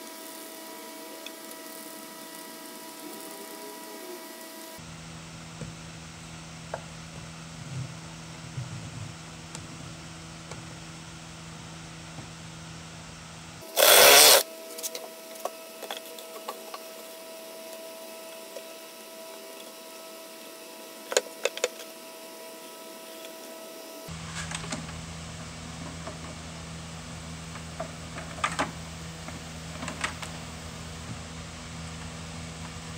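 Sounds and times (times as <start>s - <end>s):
steady hum: 0.0s - 32.9s.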